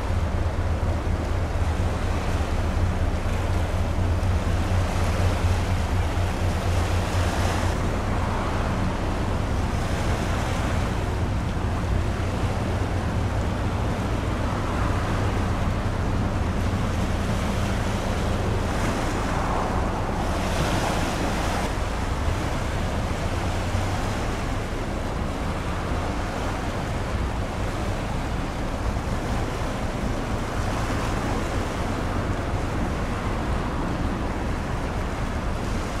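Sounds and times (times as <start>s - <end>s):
ship engine drone: 0.0s - 36.0s
waves washing: 0.0s - 36.0s
wind on microphone: 0.0s - 36.0s.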